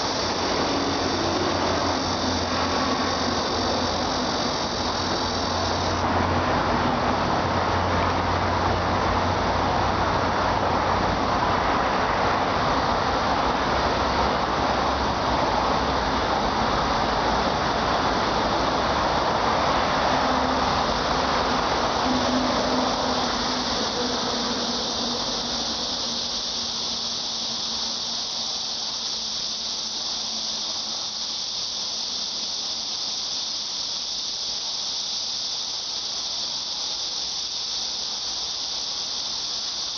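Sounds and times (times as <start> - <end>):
broad rushing noise: 0.0 - 39.9
cicadas shrilling: 0.0 - 39.9.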